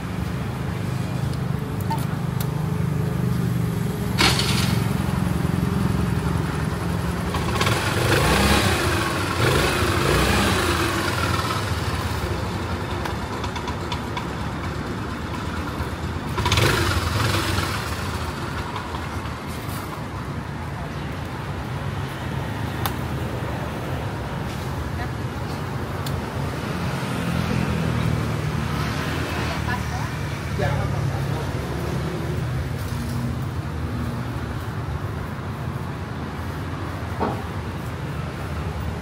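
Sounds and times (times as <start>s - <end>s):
vehicles passing close by: 0.0s - 39.0s.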